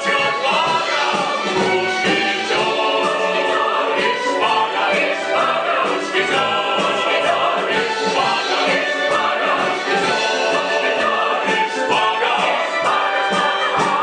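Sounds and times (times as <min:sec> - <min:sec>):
orchestra accompanying: 0:00.0 - 0:14.0
several voices singing: 0:00.0 - 0:14.0.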